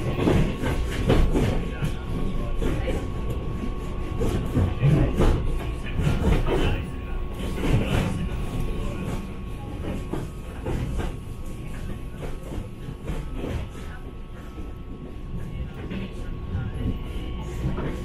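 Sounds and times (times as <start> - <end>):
train carriage rumbling: 0.0 - 18.0.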